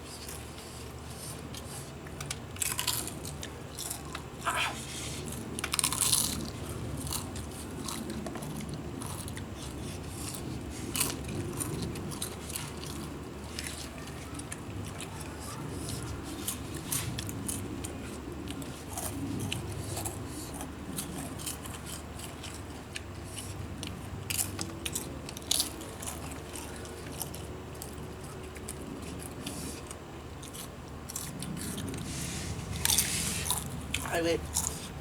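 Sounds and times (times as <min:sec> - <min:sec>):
person chewing crunchy chips: 0:00.0 - 0:35.0.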